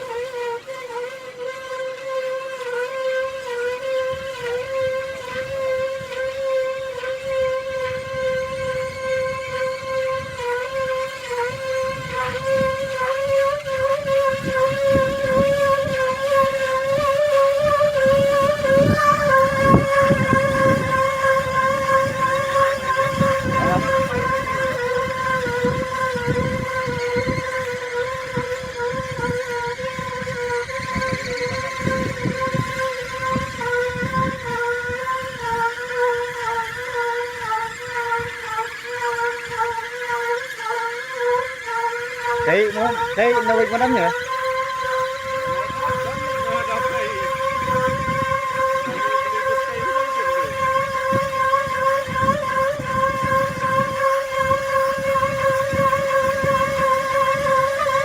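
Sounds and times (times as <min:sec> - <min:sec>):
motor whining: 0:00.0 - 0:58.0.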